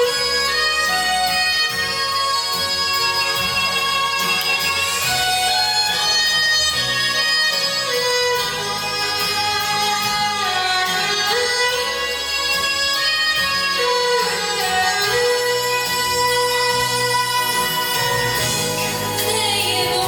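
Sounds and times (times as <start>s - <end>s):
instrumental pop music: 0.0s - 20.0s.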